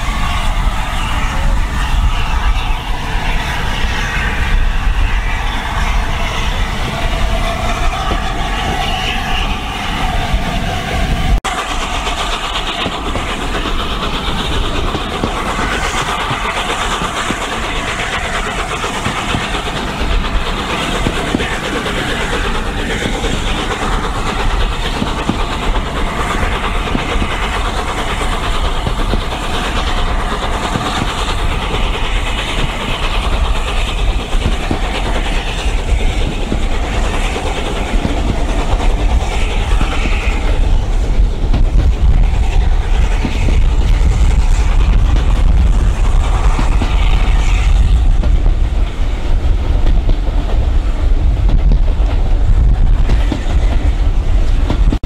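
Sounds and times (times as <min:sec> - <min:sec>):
steam locomotives working hard: 0:00.0 - 0:55.0.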